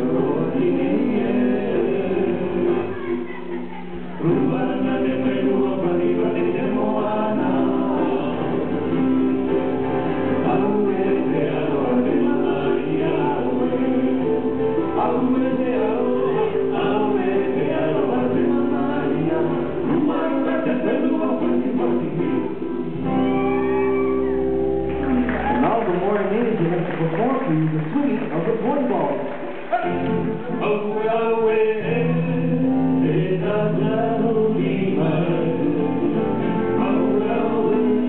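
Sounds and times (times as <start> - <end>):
voices singing together: 0.0 - 25.5, 29.4 - 38.0
band playing: 0.0 - 38.0.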